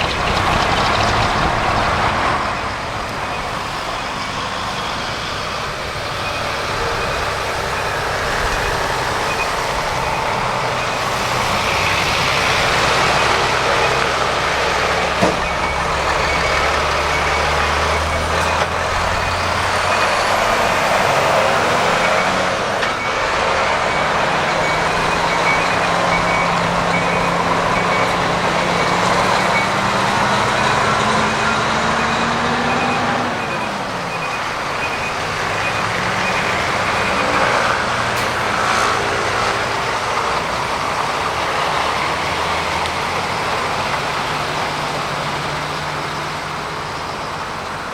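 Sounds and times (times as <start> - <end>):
truck diesel engines running: 0.0 - 47.9
truck reversing alarm beeping: 0.0 - 47.9.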